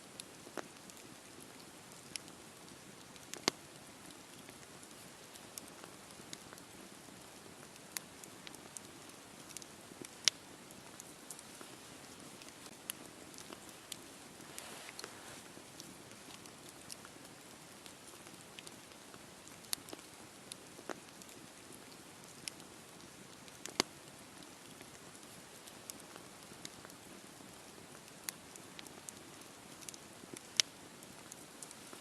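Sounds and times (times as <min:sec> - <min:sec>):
fire crackling and popping: 0:00.0 - 0:32.0
campfire hissing: 0:00.1 - 0:32.0.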